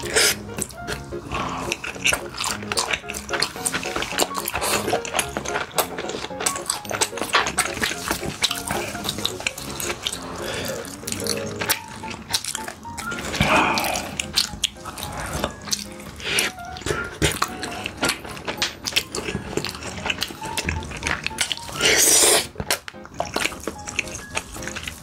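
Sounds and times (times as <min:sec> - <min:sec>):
chewing: 0:00.0 - 0:25.0
light background music: 0:00.0 - 0:25.0.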